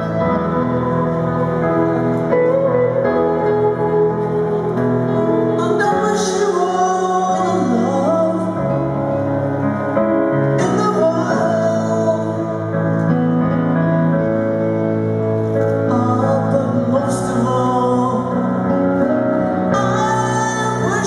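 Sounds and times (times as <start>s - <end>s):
guitar: 0.0s - 21.0s
piano: 0.0s - 21.0s.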